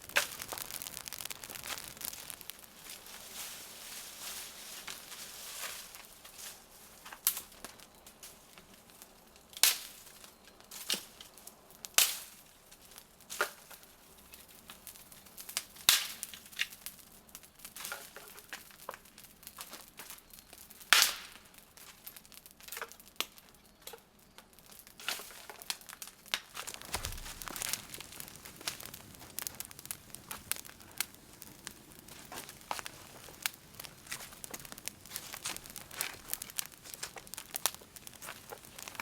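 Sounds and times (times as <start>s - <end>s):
wood cracking in campfire: 0.0s - 39.0s.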